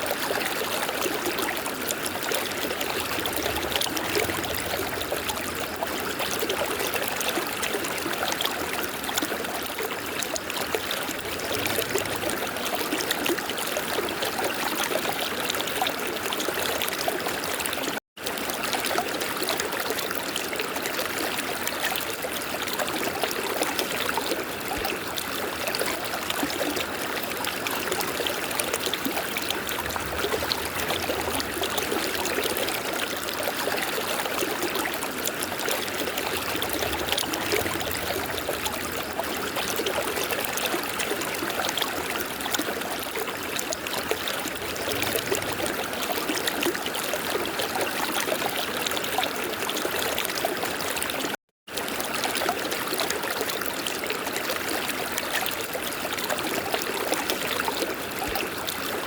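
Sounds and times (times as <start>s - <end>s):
river water flowing: 0.0s - 14.2s, 14.9s - 51.2s.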